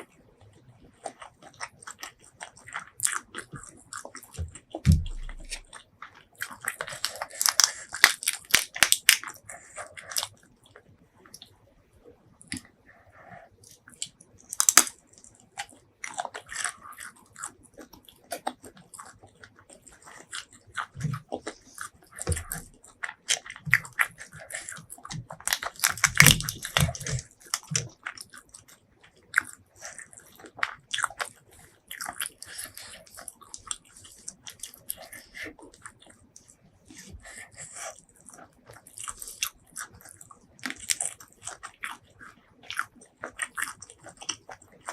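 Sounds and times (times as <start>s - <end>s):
person chewing and biting food: 0.9s - 11.5s, 13.4s - 44.9s.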